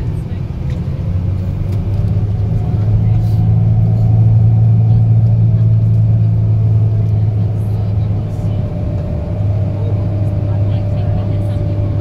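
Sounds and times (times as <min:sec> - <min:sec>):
bus engine droning inside cabin: 0:00.0 - 0:12.0.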